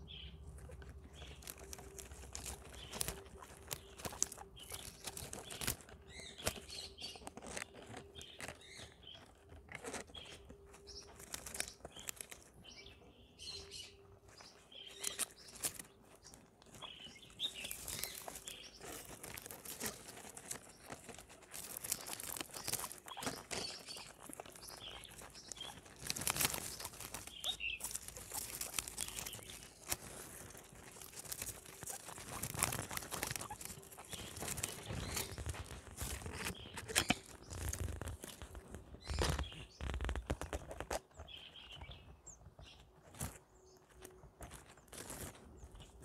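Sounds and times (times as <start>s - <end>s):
guinea pig chirps: 0.0s - 46.0s
guinea pigs chewing: 0.0s - 46.0s.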